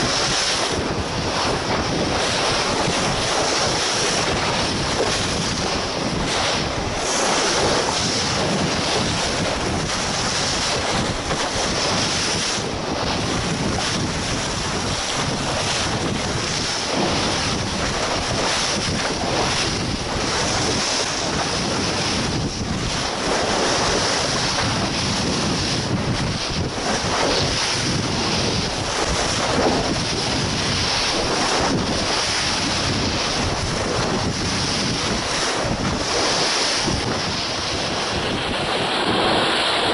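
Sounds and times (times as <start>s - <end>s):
rushing sea water: 0.0s - 39.9s
wind buffeting microphone: 0.0s - 39.9s.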